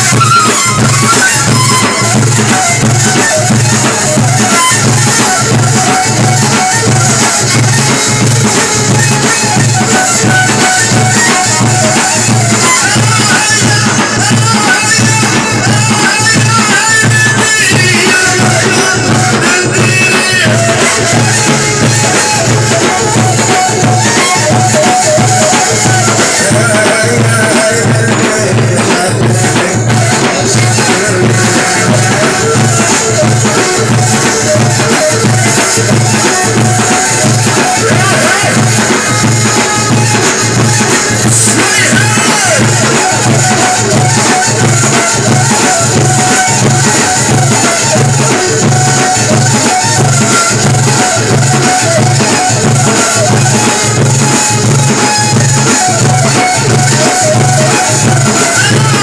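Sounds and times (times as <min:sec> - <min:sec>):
large drums beaten with sticks: 0:00.0 - 0:59.0
rattling percussion: 0:00.0 - 0:59.0.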